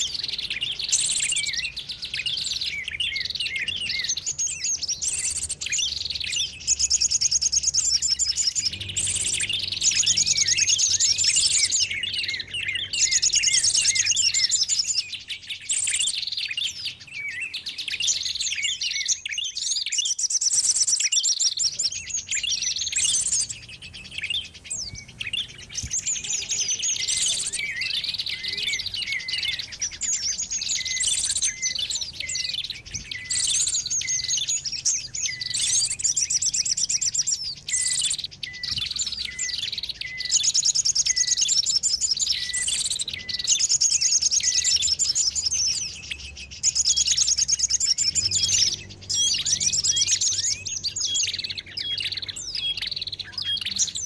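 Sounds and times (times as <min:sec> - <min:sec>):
small birds chirping and trilling: 0:00.0 - 0:54.0.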